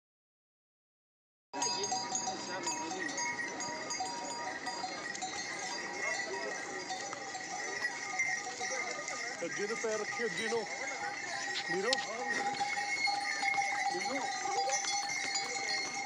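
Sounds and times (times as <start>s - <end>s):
bells ringing: 1.6s - 16.0s
many overlapping voices: 1.6s - 16.0s.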